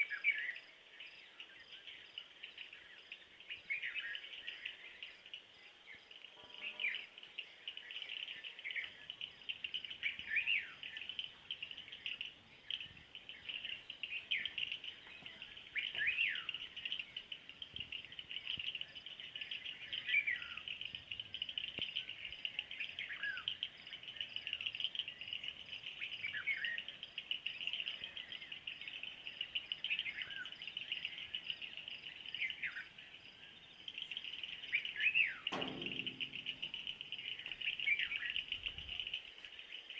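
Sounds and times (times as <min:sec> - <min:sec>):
high chatter of birds or insects: 0:00.0 - 0:39.9.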